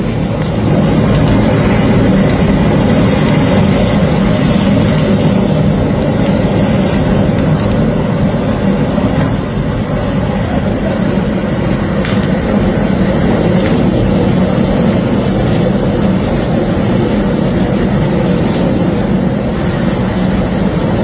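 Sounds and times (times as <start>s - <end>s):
roar of car battery fire: 0.0s - 21.0s.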